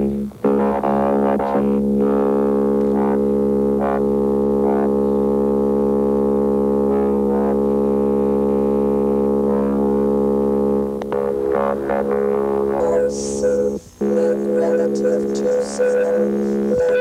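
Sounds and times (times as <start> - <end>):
low synthesizer drone: 0.0 - 17.0.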